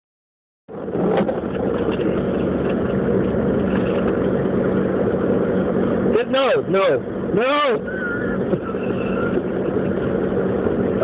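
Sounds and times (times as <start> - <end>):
car engine and road noise: 0.7 - 11.0.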